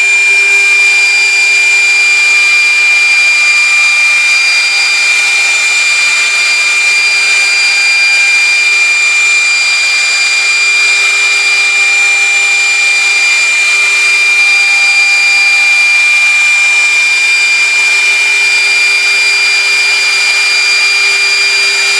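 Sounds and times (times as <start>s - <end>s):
high-pitched motor whine: 0.0s - 21.9s.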